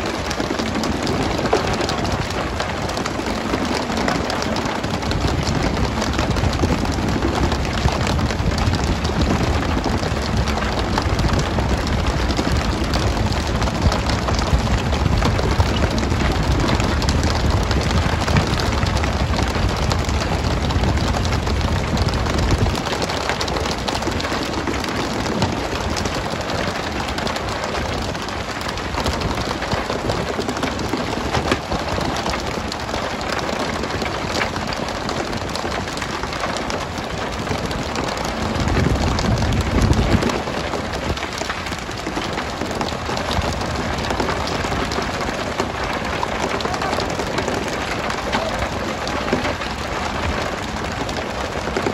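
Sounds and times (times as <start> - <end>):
deep rumble: 0.0 - 34.8, 37.4 - 51.9.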